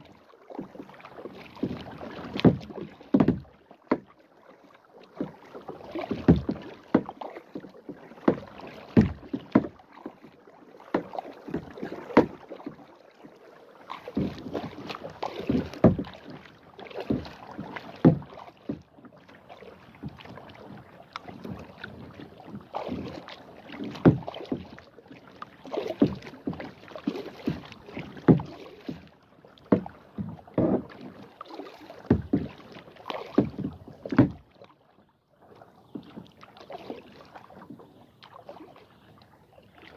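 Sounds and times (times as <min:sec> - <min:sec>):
paddle knocking plastic hull: 0:00.0 - 0:39.9
paddle splashing water: 0:00.0 - 0:39.9.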